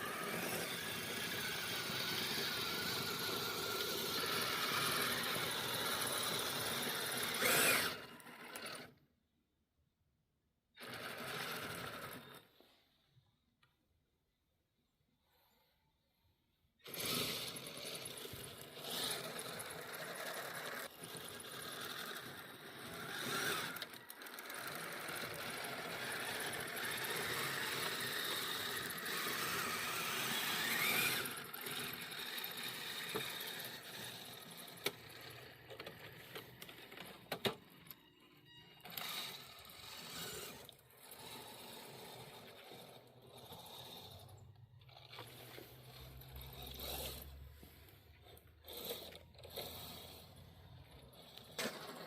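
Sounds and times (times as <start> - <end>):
toy tractor drive whirring: 0.0 - 9.1, 10.8 - 12.7, 16.7 - 52.0.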